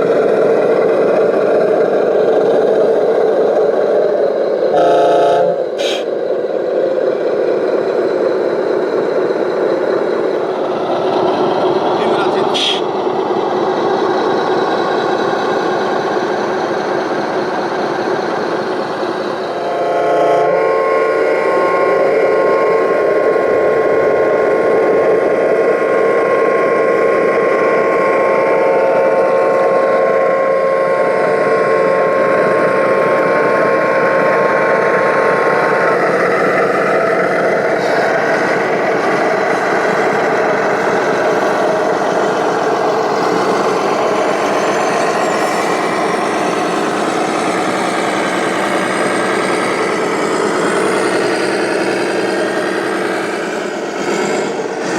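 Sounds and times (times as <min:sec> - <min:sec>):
whine of steady tones: 0:00.0 - 0:54.9.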